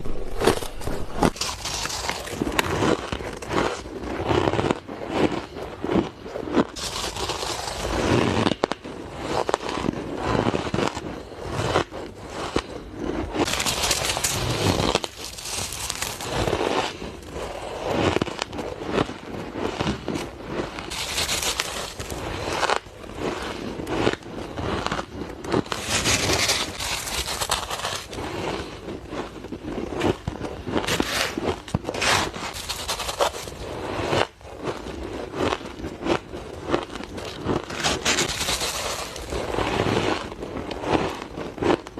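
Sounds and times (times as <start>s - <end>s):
person crunching ice: 0.0s - 41.9s.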